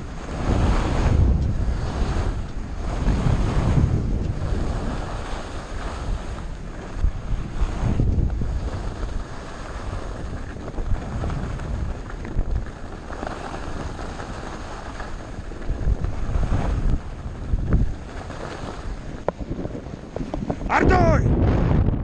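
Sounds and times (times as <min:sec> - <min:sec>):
skis sliding on snow: 0:00.0 - 0:21.2
wind buffeting microphone: 0:00.0 - 0:22.0.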